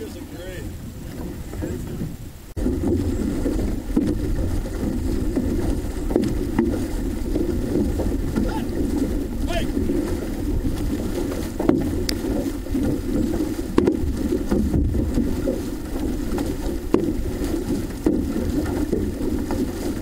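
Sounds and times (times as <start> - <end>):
rushing water and wind: 0.0 - 20.0
paddle knocks: 1.0 - 2.0, 2.6 - 20.0.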